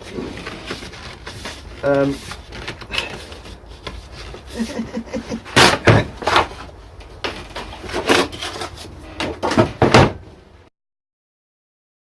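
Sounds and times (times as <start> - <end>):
jigsaw and packaging handling: 0.0 - 9.7.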